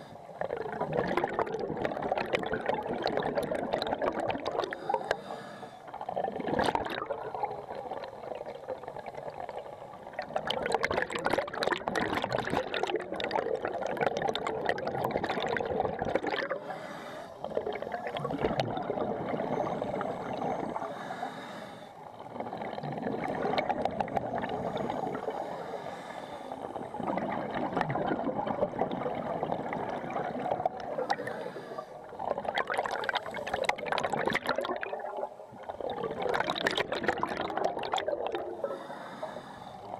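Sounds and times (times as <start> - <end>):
scuba regulator bubbles gurgling: 0.0 - 39.9.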